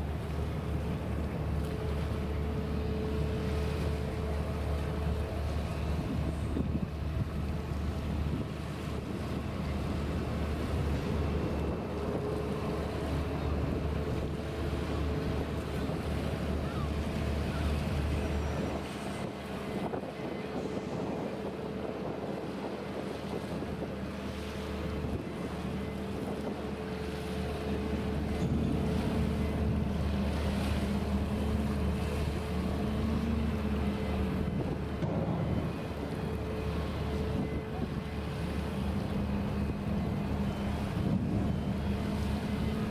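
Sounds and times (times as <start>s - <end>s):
boat engine humming: 0.0s - 42.9s
water noise: 0.0s - 42.9s
wind buffeting microphone: 0.0s - 42.9s.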